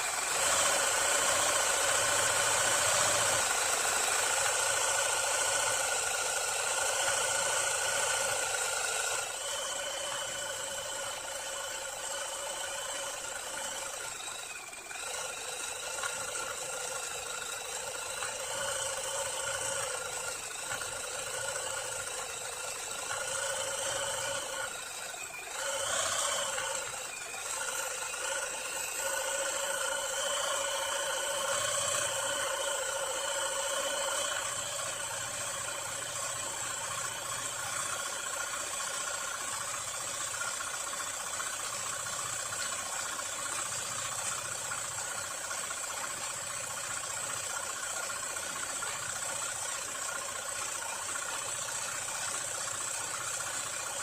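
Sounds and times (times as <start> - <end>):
sewing machine running: 0.0 - 54.0.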